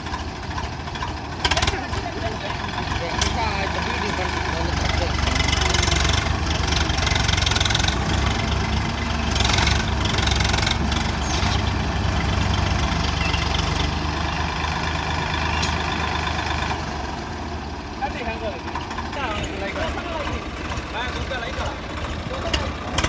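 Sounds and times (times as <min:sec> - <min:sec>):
tractor diesel engines running: 0:00.0 - 0:23.0.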